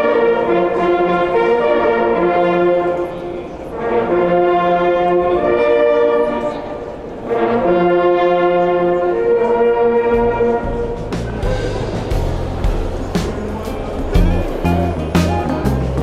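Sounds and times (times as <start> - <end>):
hunting horns playing chords: 0.0 - 16.0.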